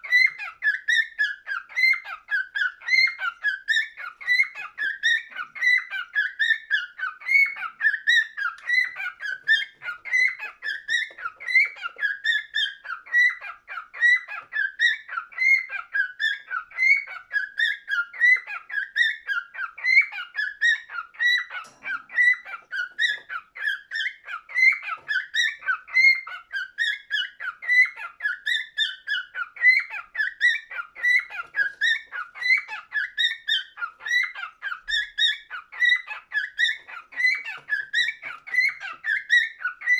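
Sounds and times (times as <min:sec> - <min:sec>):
cockatiel chirping and whistling: 0:00.0 - 0:39.9.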